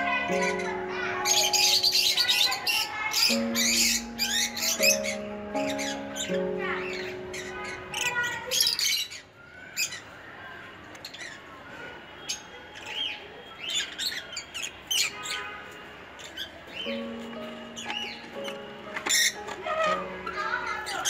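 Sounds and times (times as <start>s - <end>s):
lovebirds chirping and squawking: 0.0s - 21.0s.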